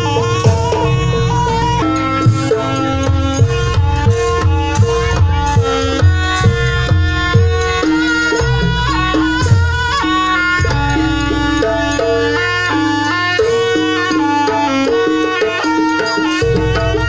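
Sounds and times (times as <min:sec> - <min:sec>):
drums and percussion: 0:00.0 - 0:17.0
reedy shawm melody: 0:00.0 - 0:17.0.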